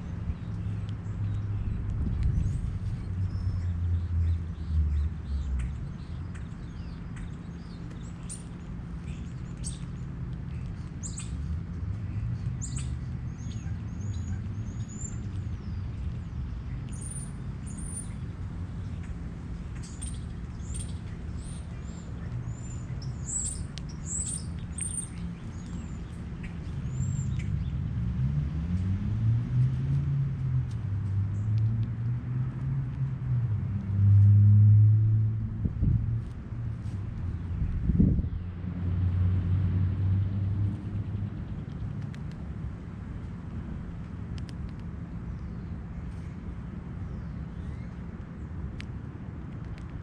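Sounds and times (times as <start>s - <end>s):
low engine rumble: 0.0s - 50.0s
songbirds chirping: 0.0s - 50.0s.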